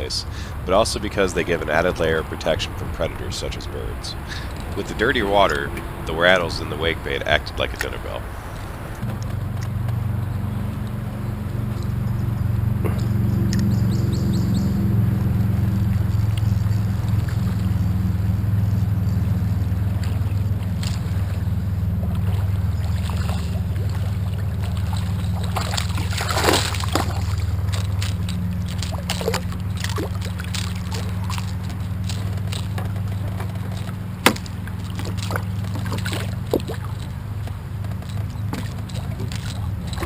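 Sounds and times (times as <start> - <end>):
low hum: 0.0 - 40.0
sharp splashes: 0.0 - 40.0
water sloshing and gurgling: 0.0 - 40.0.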